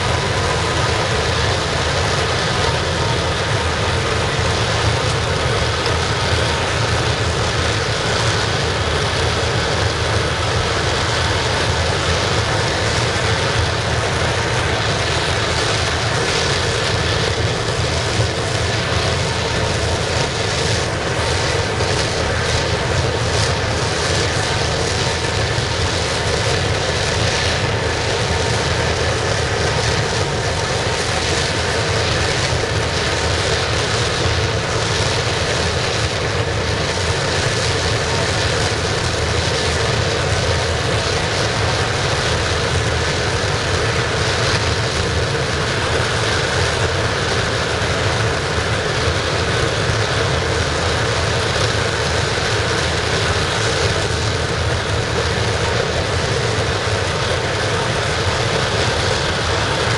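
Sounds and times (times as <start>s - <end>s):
furnace burner flame roar: 0.0s - 59.9s.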